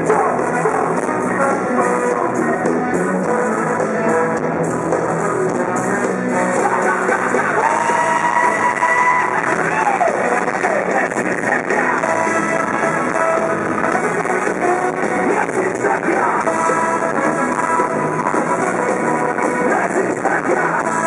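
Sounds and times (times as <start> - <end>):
live band with singer: 0.0 - 21.0.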